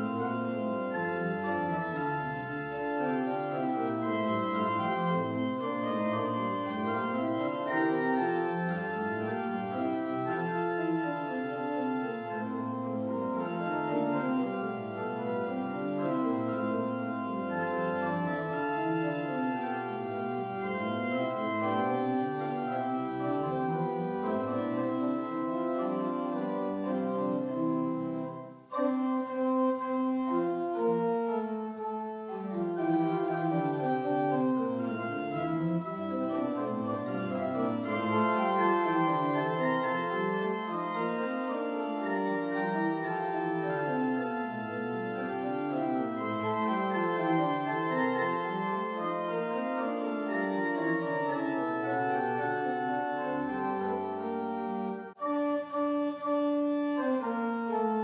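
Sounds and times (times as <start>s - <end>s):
church organ playing: 0.0s - 58.0s.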